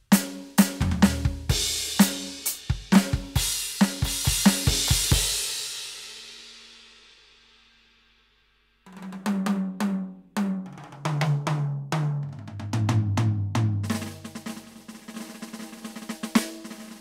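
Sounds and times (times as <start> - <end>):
fast drum fill on toms: 0.0 - 5.6, 8.9 - 17.0.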